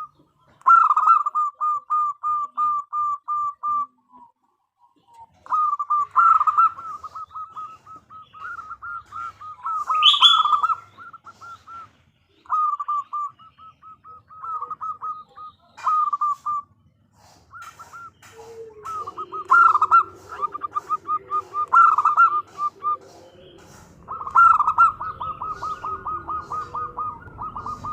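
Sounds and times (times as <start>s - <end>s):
dove calling staccato notes: 0.0s - 4.2s, 4.9s - 27.9s.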